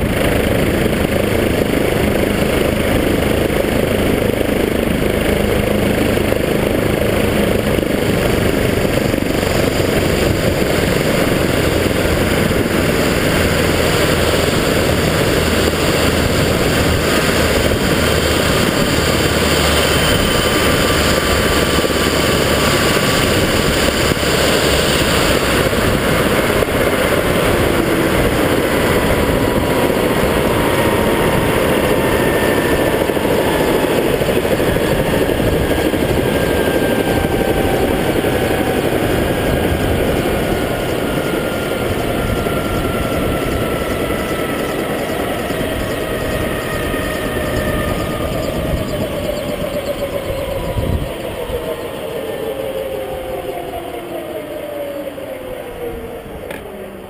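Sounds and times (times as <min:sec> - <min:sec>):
helicopter turbine and rotor: 0:00.0 - 0:57.0.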